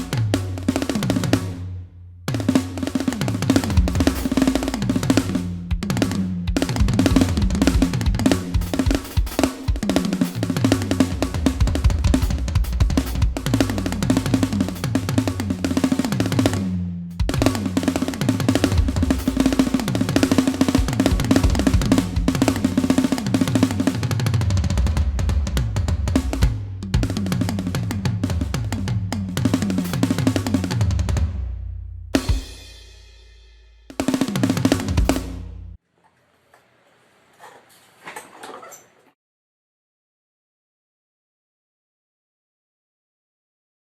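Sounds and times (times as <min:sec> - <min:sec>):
drum kit playing fast: 0:00.0 - 0:35.8.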